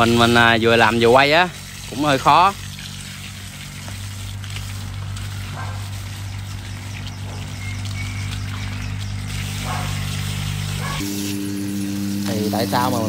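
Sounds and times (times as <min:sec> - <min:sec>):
garden hose water spraying: 0:00.0 - 0:13.0
steady low hum: 0:00.0 - 0:13.0.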